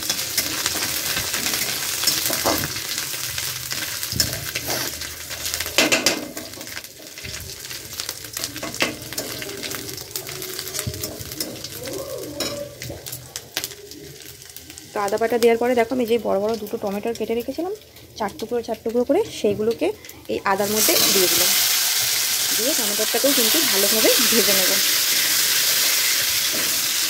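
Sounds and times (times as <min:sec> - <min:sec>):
spices sizzling in hot oil: 0:00.0 - 0:27.0.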